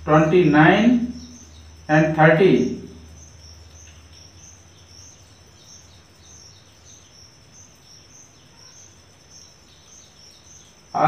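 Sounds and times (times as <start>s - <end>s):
faint high-pitched chirping: 0.0s - 11.0s.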